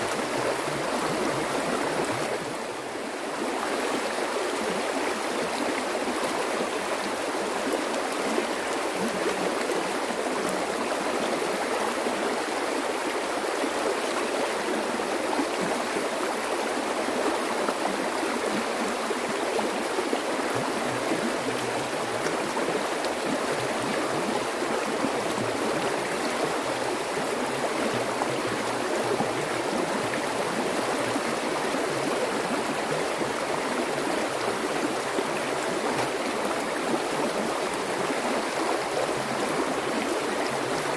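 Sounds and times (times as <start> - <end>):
stream water gurgling: 0.0 - 40.9.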